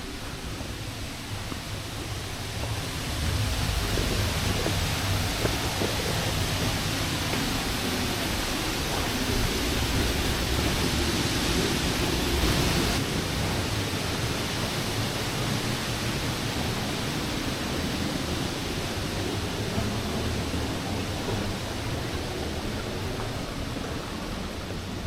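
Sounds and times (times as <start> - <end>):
large waterfall roaring: 0.0 - 25.0.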